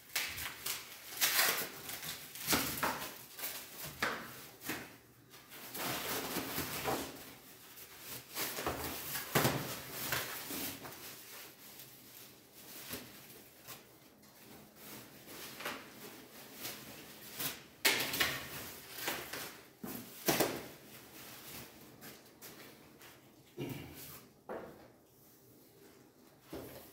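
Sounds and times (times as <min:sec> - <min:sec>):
plastic film crinkling: 0:00.0 - 0:22.3.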